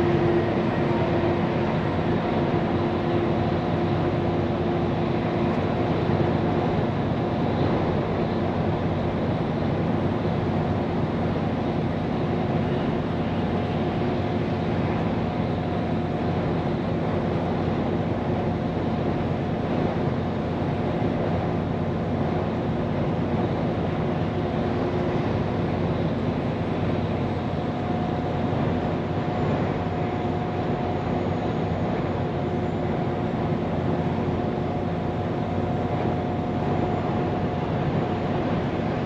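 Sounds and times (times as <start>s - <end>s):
truck engine drone: 0.0s - 39.0s.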